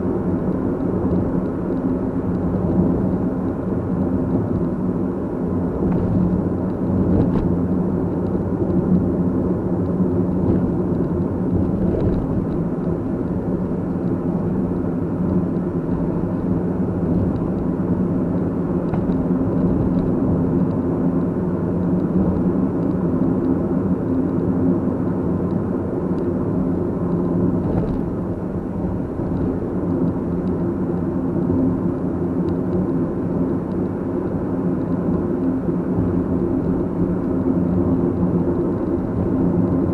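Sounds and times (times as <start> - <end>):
car engine and tyre hum: 0.0 - 39.9.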